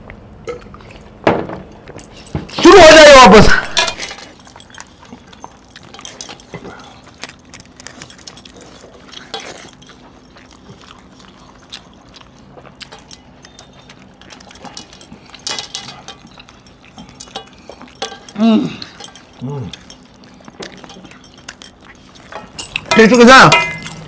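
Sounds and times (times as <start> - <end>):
chewing and smacking: 0.0 - 1.2, 3.6 - 24.0
light metallic clinks on plates: 3.6 - 12.2, 12.8 - 24.0.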